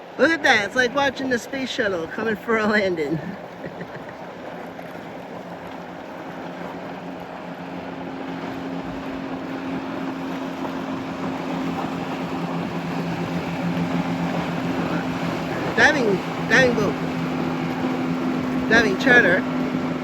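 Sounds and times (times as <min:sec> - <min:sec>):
motorboat engines humming: 0:00.0 - 0:20.0
wind and water noise: 0:00.0 - 0:20.0.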